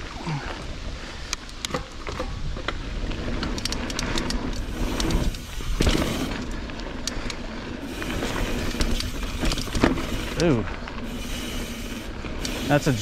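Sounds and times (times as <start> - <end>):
bike rattling and clicking: 0.4 - 13.0
tyres rumbling on dirt and rock: 1.8 - 13.0.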